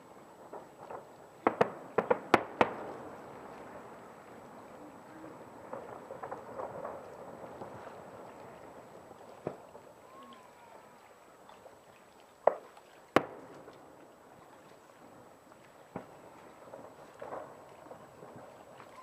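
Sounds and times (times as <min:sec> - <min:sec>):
distant fireworks bangs: 0:00.0 - 0:10.8, 0:12.4 - 0:14.4, 0:15.8 - 0:19.0.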